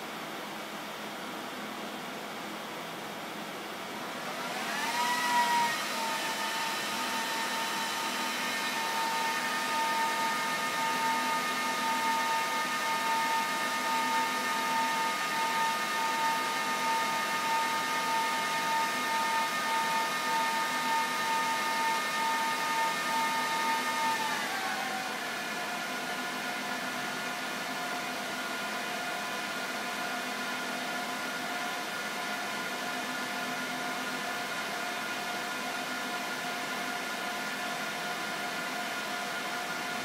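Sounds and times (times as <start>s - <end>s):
server cooling fans whirring: 0.0s - 40.0s.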